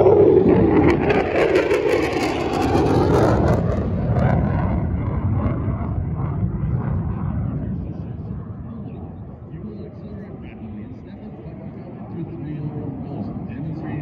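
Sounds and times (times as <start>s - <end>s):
fighter jet engine roaring: 0.0s - 14.0s.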